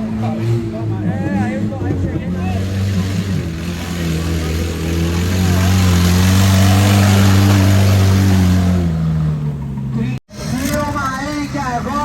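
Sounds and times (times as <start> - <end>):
race vehicle engine running: 0.0 - 12.0.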